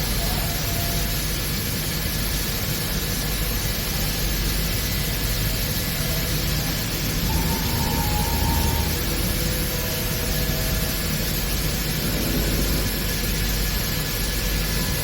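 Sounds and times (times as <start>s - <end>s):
cnc machine hiss and hum: 0.0s - 15.0s.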